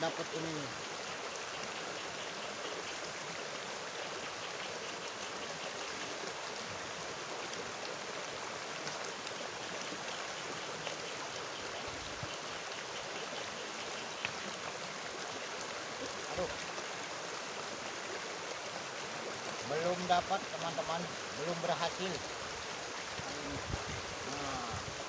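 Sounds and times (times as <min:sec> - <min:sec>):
river flowing over stones: 0:00.0 - 0:25.0.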